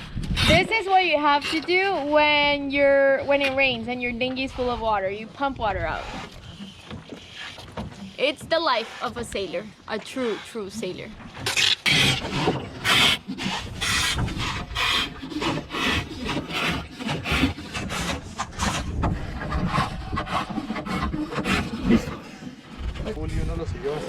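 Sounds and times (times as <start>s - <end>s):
hand pump strokes: 0.2s - 22.8s.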